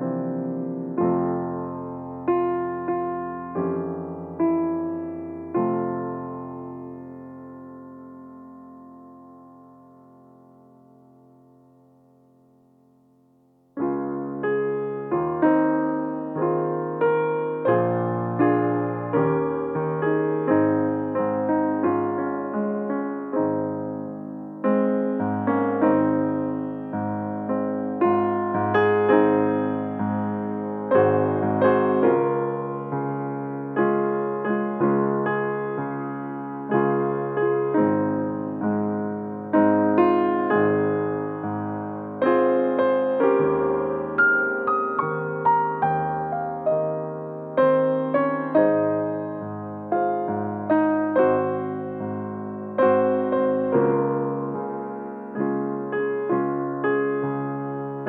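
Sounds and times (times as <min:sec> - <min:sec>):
piano playing slow chords: 0:00.0 - 0:12.8, 0:13.7 - 0:58.0.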